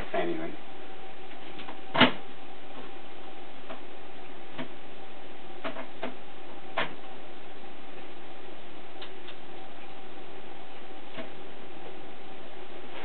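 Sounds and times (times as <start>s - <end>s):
faint hum: 0.0s - 13.0s
steady background hiss: 0.0s - 13.0s.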